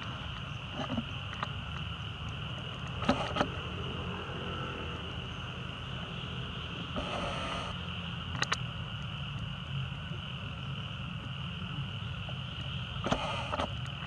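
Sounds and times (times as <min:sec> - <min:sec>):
forest insects droning: 0:00.0 - 0:14.0.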